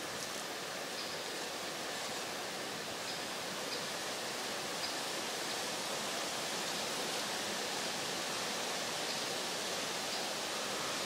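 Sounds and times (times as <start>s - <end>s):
rushing forest background noise: 0.0s - 11.0s.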